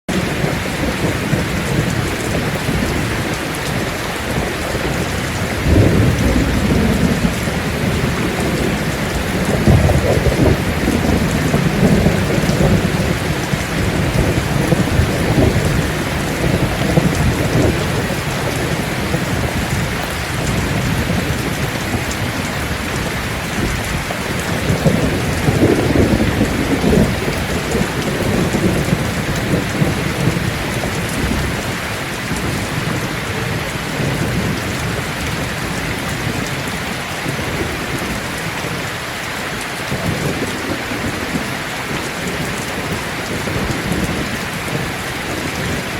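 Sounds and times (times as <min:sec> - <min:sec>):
heavy rain falling: 0:00.1 - 0:45.9
thunder rumbling: 0:00.1 - 0:45.9.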